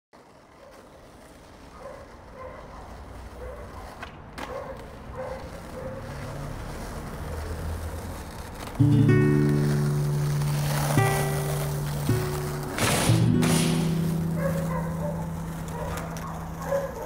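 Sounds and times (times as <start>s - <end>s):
skateboard wheels rolling on asphalt: 0.1s - 17.0s.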